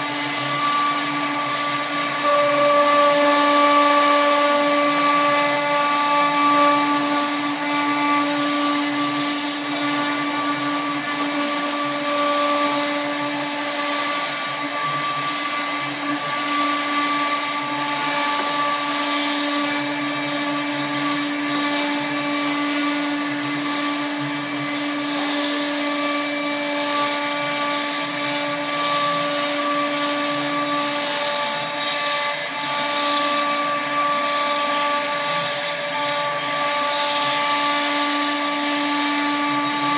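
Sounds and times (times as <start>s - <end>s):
bit cutting board with hiss: 0.0s - 39.9s
router spindle whining: 0.0s - 39.9s.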